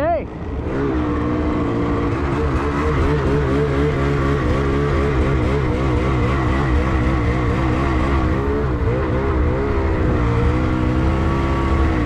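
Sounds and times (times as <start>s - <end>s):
snowmobile engine running under load: 0.3s - 12.0s.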